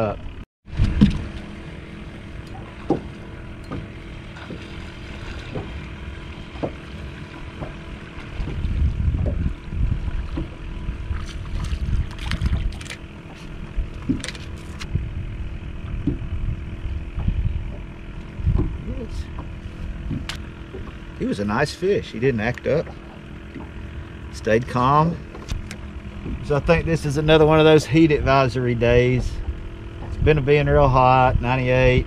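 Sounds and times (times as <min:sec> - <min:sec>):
wind and water rumble: 0:00.0 - 0:32.0.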